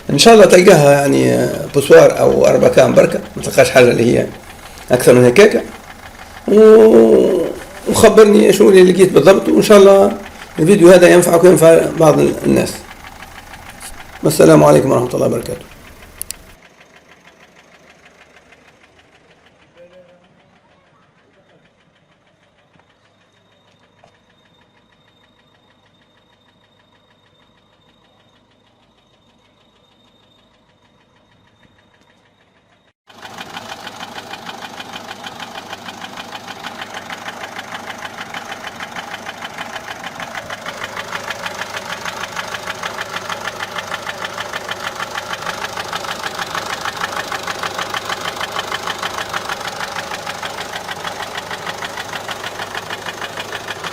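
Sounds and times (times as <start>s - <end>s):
diesel engine ticking knock: 0.0s - 53.9s.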